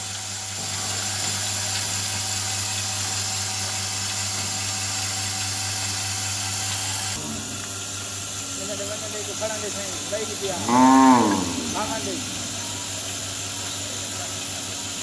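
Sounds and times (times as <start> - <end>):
vacuum pump humming: 0.0 - 15.0.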